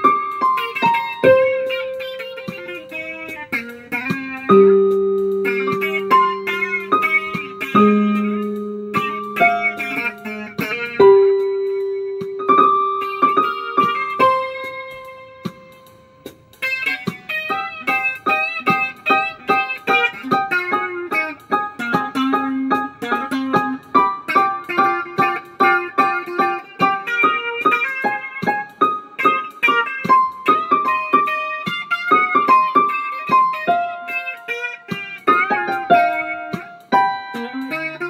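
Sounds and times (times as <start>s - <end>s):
solo electric guitar: 0.0s - 38.0s.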